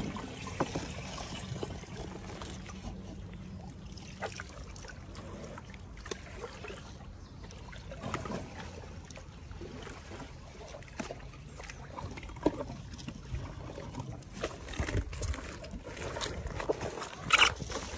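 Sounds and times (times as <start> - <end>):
water sloshing and splashing: 0.0 - 17.9.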